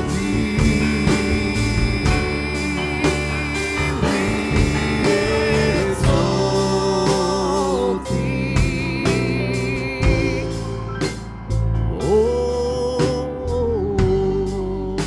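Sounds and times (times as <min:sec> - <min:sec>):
worship band and singers: 0:00.0 - 0:15.0.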